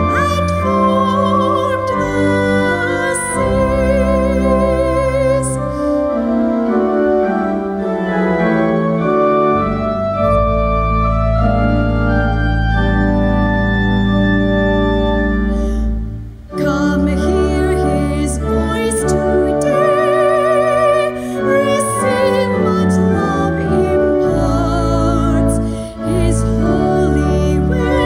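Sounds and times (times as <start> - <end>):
organ playing sustained chords: 0.0 - 28.0.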